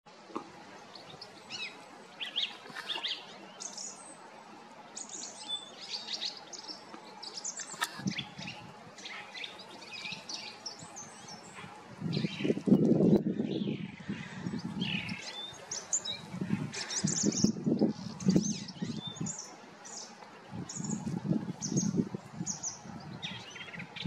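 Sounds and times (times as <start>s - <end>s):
songbirds chirping: 0.1s - 24.0s.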